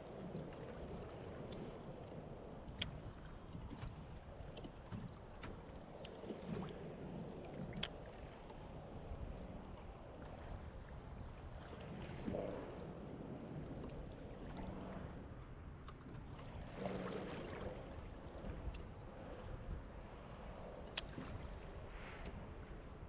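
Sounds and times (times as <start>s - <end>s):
low steady rumble: 0.0s - 23.0s
water lapping against kayak hull: 0.0s - 23.0s.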